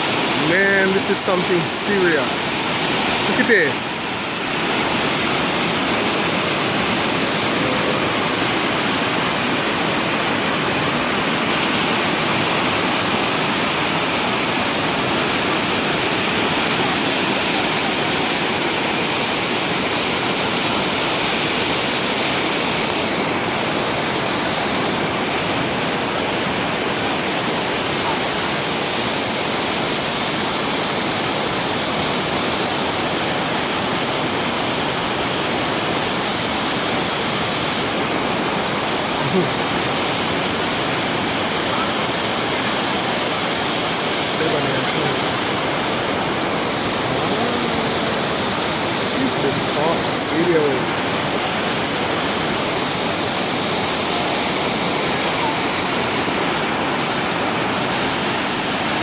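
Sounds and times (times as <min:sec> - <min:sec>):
flooded river roaring: 0:00.0 - 0:59.0.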